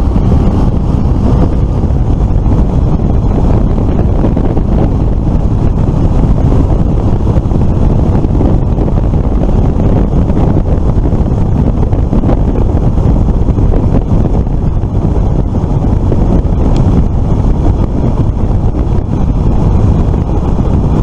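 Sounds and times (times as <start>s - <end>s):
vehicle running noise: 0.0s - 21.0s
wind buffeting microphone: 0.0s - 21.0s.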